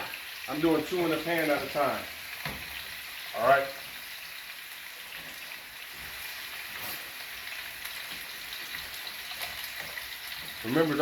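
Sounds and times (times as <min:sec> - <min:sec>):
chicken searing in a pan: 0:00.0 - 0:11.0.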